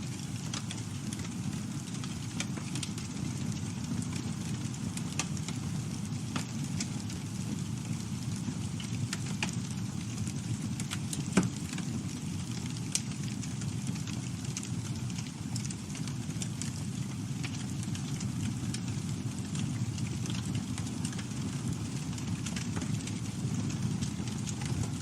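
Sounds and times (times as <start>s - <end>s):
campfire rumble: 0.0s - 25.0s
wood crackling: 0.1s - 25.0s.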